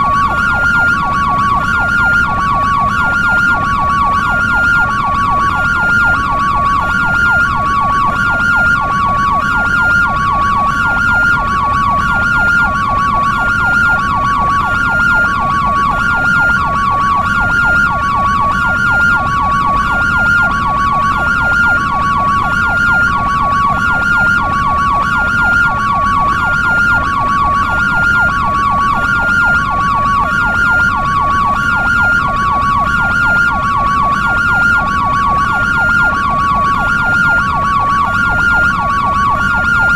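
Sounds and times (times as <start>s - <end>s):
two-tone ambulance siren: 0.0s - 39.9s.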